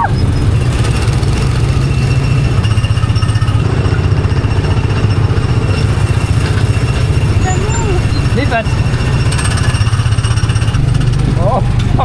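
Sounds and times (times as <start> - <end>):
vehicle low rumble: 0.0 - 12.0.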